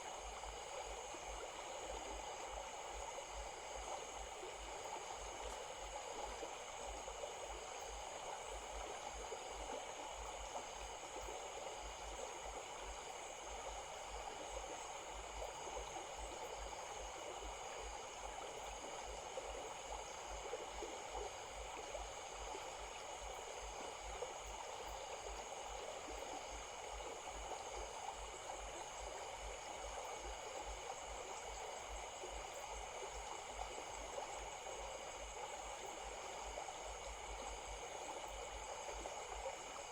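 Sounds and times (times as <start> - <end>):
faint pulsing whine: 0.0 - 39.9
stream flowing: 0.0 - 39.9.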